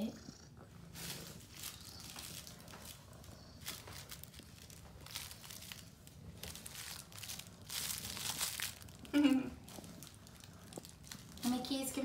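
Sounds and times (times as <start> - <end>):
soft rustling and crinkling: 0.5 - 12.0.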